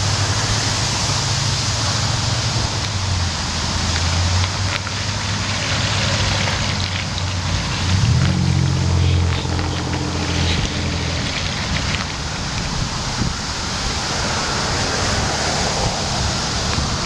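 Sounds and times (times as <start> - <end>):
draining water rushing and gurgling: 0.0 - 17.0
low hum drone: 0.0 - 17.0.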